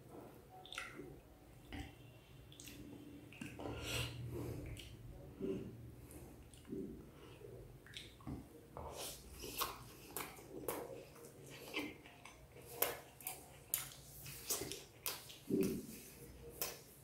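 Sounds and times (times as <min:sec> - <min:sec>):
chewing: 0:02.5 - 0:17.0.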